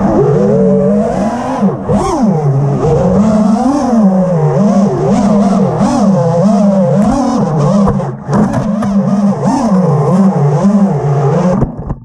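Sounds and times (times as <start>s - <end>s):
drone motors buzzing and whining: 0.0s - 12.0s.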